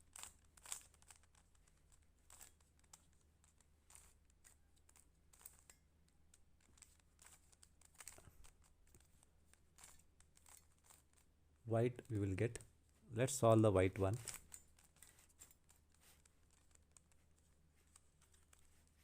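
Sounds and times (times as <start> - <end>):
plastic puzzle cube clicking: 0.0 - 11.3, 14.0 - 19.0.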